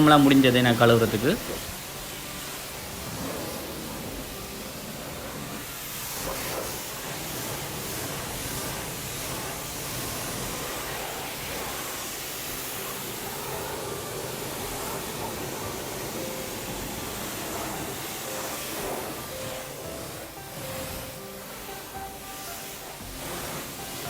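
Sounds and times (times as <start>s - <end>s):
pressure washer spraying water: 0.0s - 24.0s.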